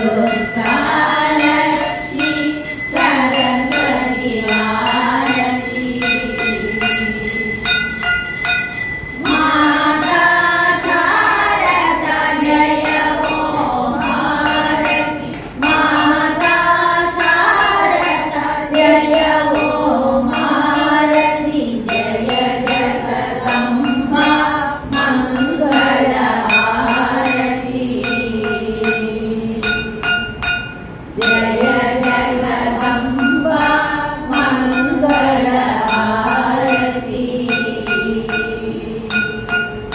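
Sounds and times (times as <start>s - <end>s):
group singing a hymn: 0.0s - 8.0s, 9.2s - 30.2s, 31.1s - 39.8s
hand bell ringing: 0.0s - 39.9s
metallic strokes keeping time: 0.0s - 39.9s
steady drone: 0.0s - 39.9s.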